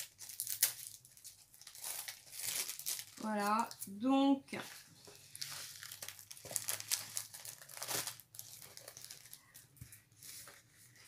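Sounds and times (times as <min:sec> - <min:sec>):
plastic packaging crinkling: 0:00.0 - 0:04.0, 0:05.1 - 0:11.0.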